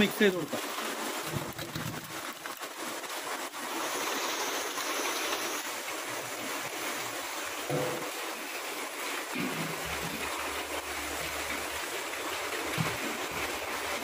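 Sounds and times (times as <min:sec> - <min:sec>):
heavy rain pouring off roof: 0:00.0 - 0:14.0.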